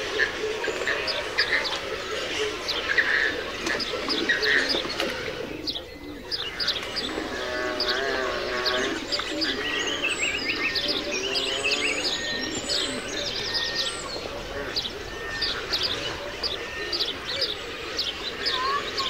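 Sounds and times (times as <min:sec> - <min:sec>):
birds chirping: 0:00.0 - 0:19.0
warbling cooing bird calls: 0:00.0 - 0:19.0.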